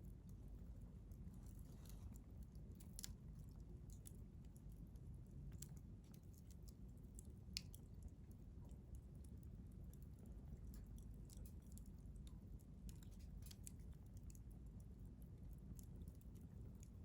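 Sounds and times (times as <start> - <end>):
wood fire crackling faintly: 0.0 - 17.0.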